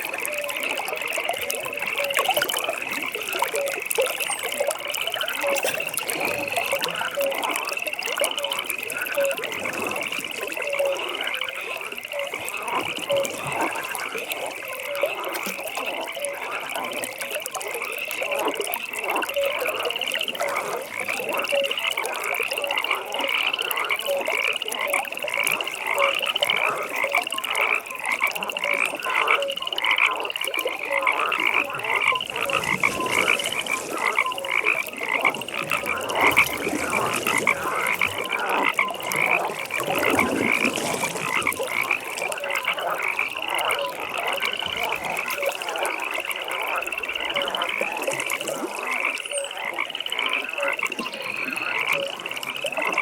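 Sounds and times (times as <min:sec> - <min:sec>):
high trilled frog calls: 0:00.0 - 0:53.0
low frog croaks: 0:00.0 - 0:53.0.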